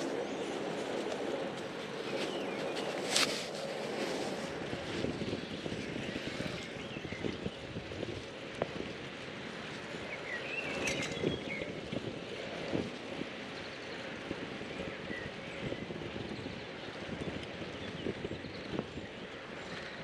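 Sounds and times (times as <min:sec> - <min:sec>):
bicycle tyre rumble: 0:00.0 - 0:20.0
wind on microphone: 0:00.0 - 0:20.0.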